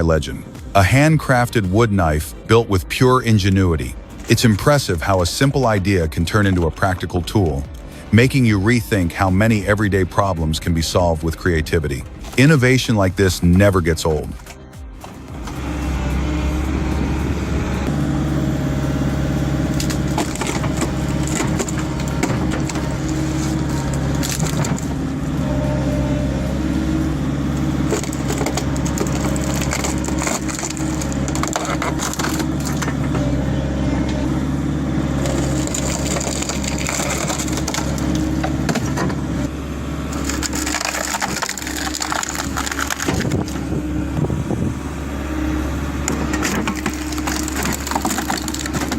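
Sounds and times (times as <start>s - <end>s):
logs cracking and splintering: 0.0s - 44.7s, 45.3s - 48.9s
wood-splitting machine engine hum: 0.0s - 48.9s.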